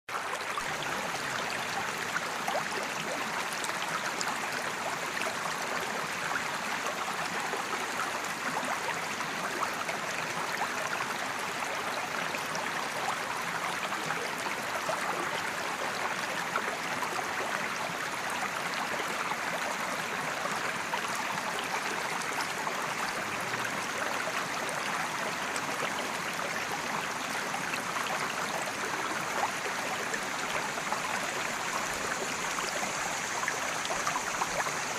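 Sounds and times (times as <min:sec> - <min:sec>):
creek flowing over rocks: 0:00.1 - 0:34.9.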